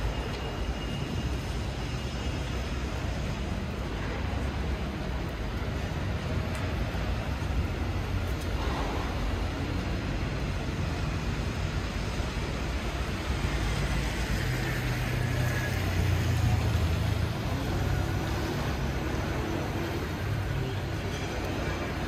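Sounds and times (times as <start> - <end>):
hiss of road noise: 0.0 - 22.0
vehicle engine rumble: 0.0 - 22.0.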